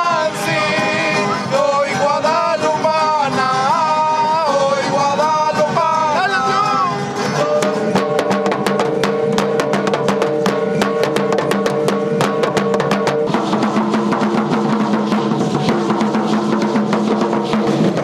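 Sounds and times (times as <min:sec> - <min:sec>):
drums beaten in fast rhythm: 0:00.0 - 0:18.0.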